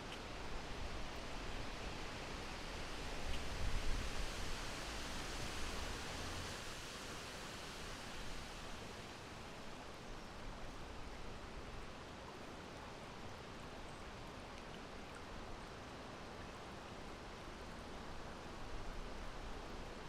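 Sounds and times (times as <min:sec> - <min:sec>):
steady breeze: 0:00.0 - 0:20.0.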